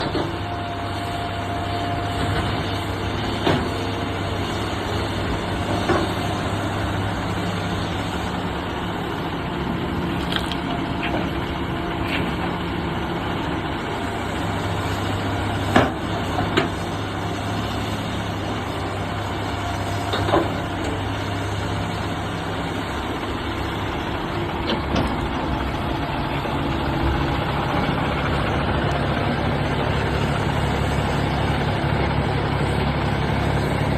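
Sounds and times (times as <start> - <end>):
heavy vehicle engine humming: 0.0 - 33.9.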